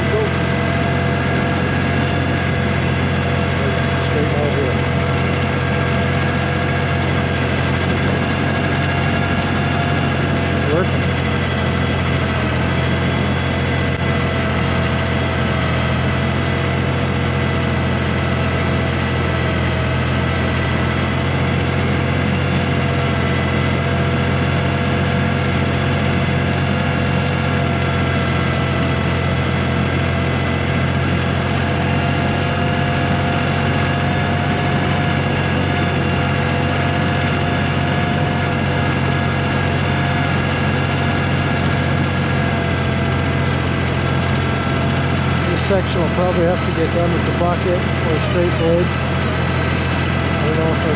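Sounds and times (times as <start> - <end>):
steady whining tones: 0.0 - 50.9
tractor diesel engine running: 0.0 - 50.9.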